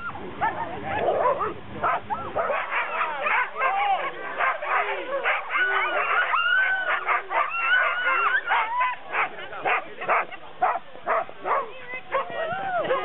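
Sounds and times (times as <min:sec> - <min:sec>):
sled dogs yipping and howling: 0:00.0 - 0:13.0.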